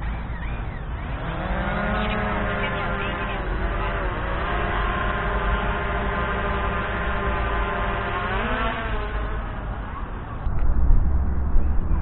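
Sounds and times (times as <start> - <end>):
drone propeller whine: 0.0 - 12.0.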